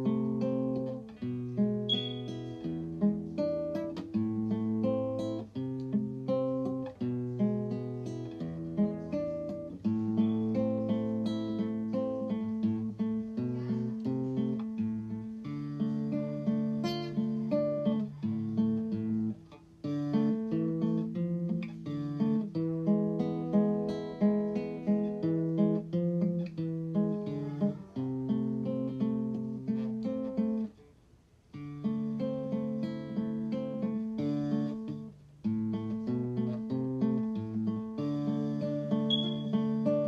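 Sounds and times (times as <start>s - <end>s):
acoustic guitar plucked notes: 0.0s - 30.8s, 31.5s - 40.0s.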